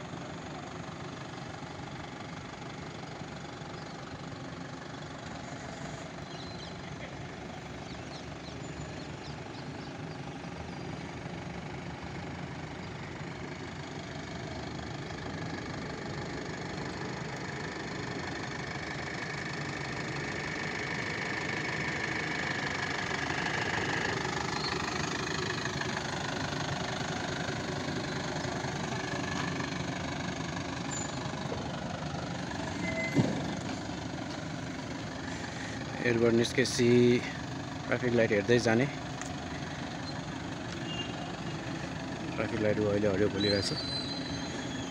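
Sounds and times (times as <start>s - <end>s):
bus diesel engine at low speed: 0.0s - 44.9s.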